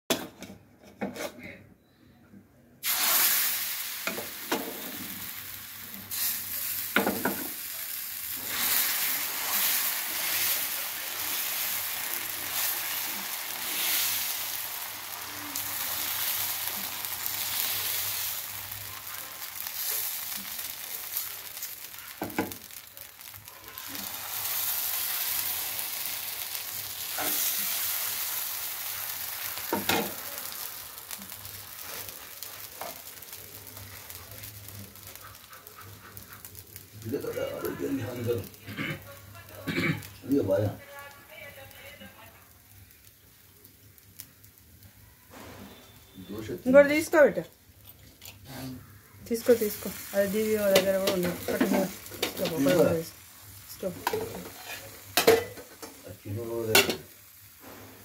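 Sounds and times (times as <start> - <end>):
batter sizzling on hot pan: 2.8 - 58.0.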